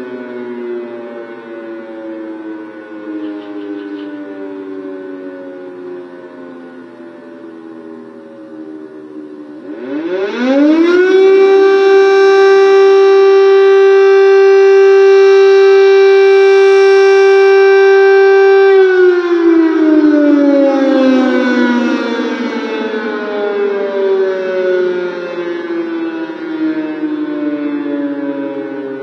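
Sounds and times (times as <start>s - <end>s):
air-raid siren wailing: 0.0s - 29.0s.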